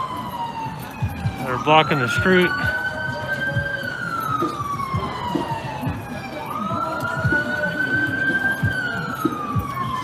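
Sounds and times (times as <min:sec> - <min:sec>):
emergency vehicle siren wailing: 0:00.0 - 0:10.0.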